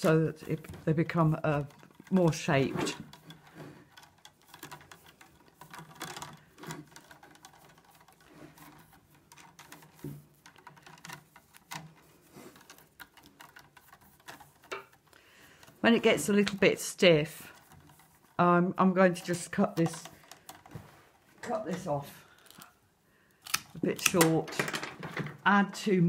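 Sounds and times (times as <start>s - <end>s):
willow rods clicking and rustling: 0.0s - 26.0s.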